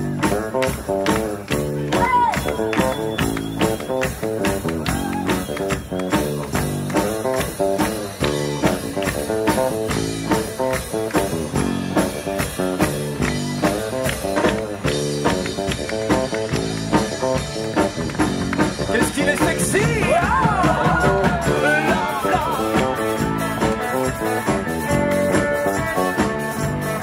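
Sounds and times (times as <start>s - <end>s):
guitar: 0.0s - 27.0s
steady drum beat: 0.0s - 27.0s.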